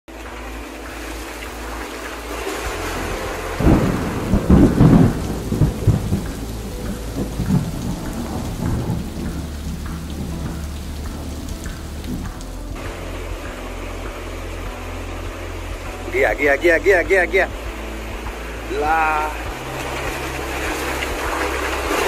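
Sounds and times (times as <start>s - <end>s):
heavy rain: 0.0s - 22.0s
thunder rumbling: 0.1s - 22.0s.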